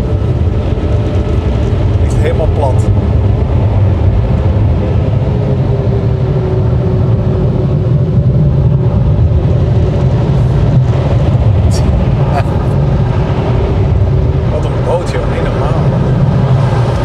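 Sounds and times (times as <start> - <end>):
car wash machinery rumbling: 0.0 - 17.0.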